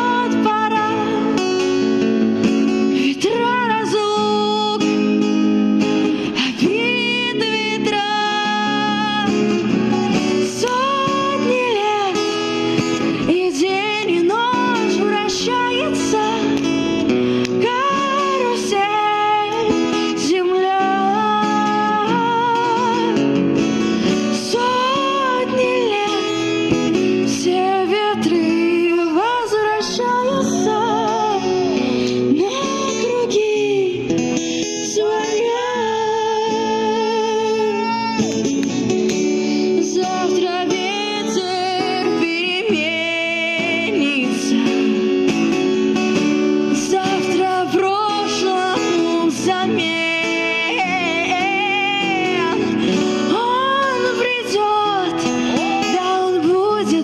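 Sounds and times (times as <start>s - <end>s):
woman singing with vibrato: 0.0s - 23.5s, 24.1s - 38.2s, 39.4s - 57.0s
strummed acoustic guitar: 0.0s - 35.8s, 36.4s - 57.0s.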